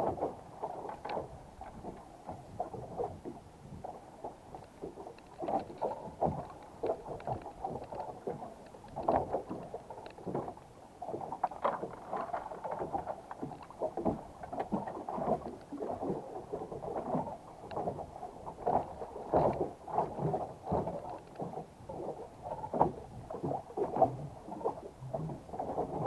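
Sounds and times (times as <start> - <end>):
knocks and splashes: 0.0 - 26.0
water lapping against boat hull: 0.0 - 26.0.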